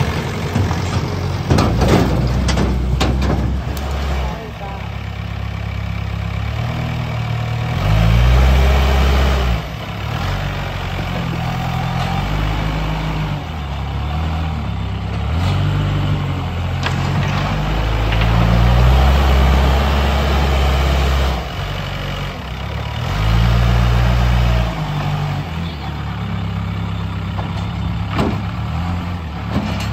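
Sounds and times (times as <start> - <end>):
diesel engine revving: 0.0 - 29.9.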